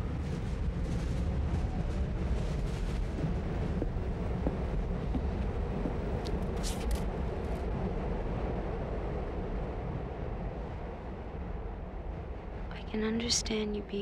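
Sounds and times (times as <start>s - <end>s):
subway car rumble and rattle: 0.0s - 14.0s.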